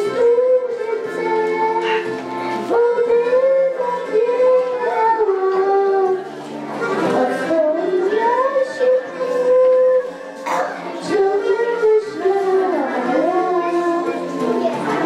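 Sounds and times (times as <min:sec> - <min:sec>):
girl singing into microphone: 0:00.0 - 0:15.0
instrumental accompaniment: 0:00.0 - 0:15.0.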